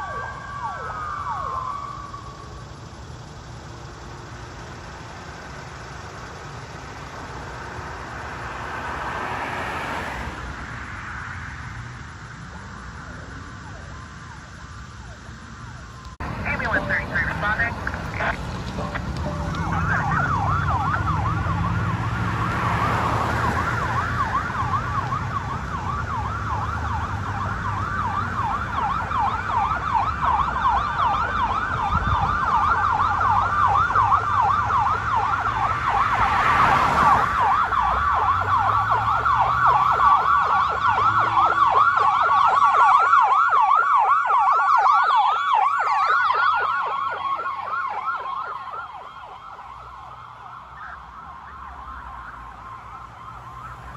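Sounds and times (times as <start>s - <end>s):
electronic siren yelping: 0.0s - 8.8s, 13.4s - 53.9s
vehicle engine rumbling: 0.0s - 53.9s.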